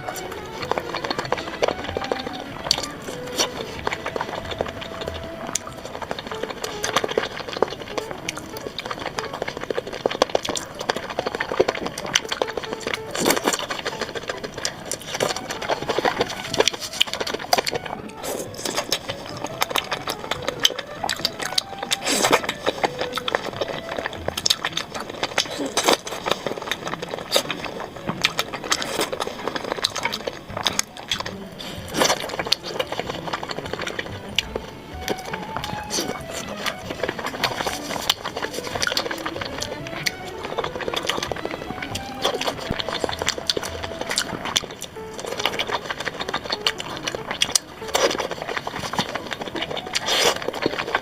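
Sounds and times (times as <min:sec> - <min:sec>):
person chewing and slurping food: 0:00.0 - 0:51.0
wet mouth clicks: 0:00.0 - 0:51.0.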